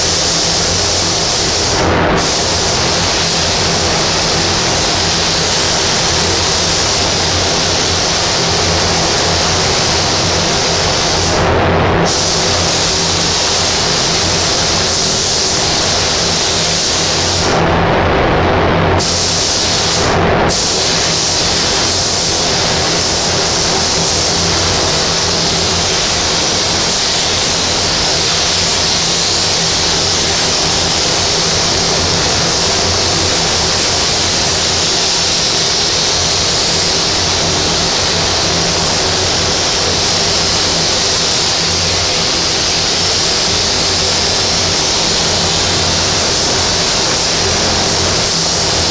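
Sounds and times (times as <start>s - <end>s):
spray gun hissing: 0.0s - 17.6s, 19.0s - 48.9s.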